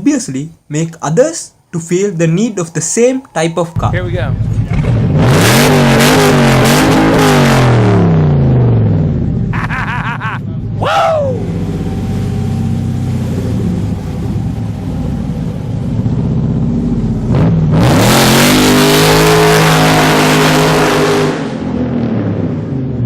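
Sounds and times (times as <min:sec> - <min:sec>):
car engine idling and revving: 0:02.7 - 0:23.0.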